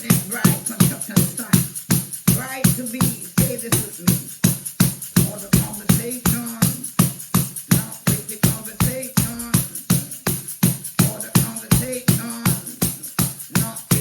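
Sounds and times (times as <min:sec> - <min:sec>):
fast steady drum beat: 0:00.0 - 0:14.0.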